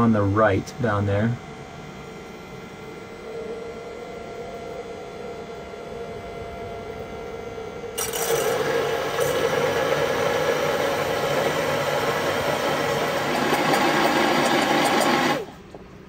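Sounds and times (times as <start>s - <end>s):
electric pump motor running: 0.0s - 16.0s.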